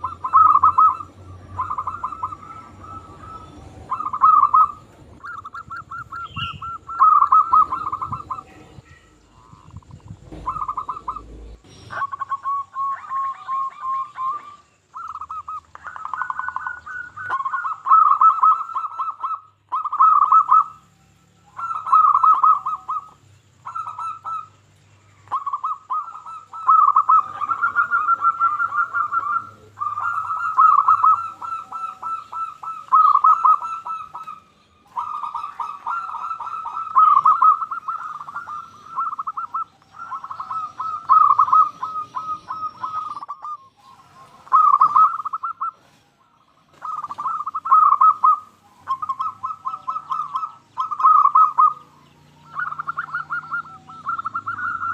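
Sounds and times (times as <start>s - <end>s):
dove cooing: 0.0s - 54.9s.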